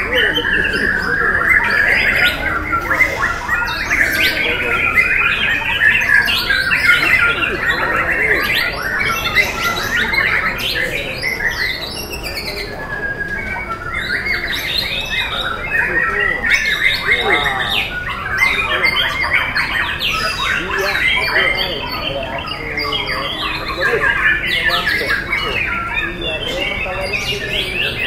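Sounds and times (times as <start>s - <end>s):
birds singing whistles and chatter: 0.0s - 28.0s.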